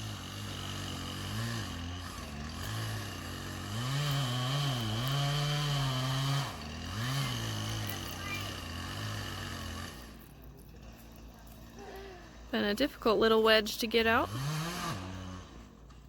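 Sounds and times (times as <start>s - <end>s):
chainsaw engine revving: 0.0s - 12.8s, 14.0s - 16.0s.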